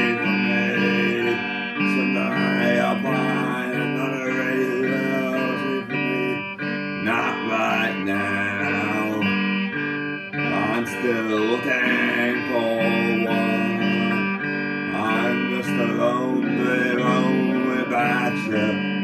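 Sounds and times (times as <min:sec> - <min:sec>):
bending guitar notes: 0:00.0 - 0:19.0
electric guitar chords: 0:00.0 - 0:19.0.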